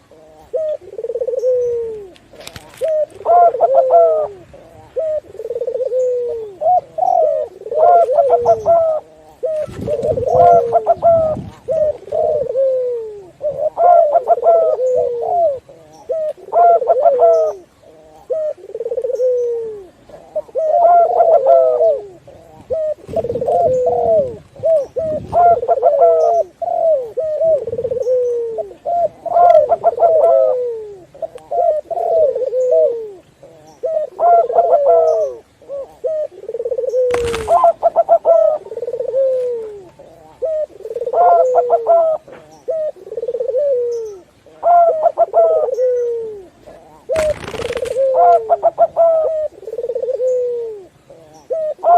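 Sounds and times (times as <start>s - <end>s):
doves cooing: 0.0s - 51.9s.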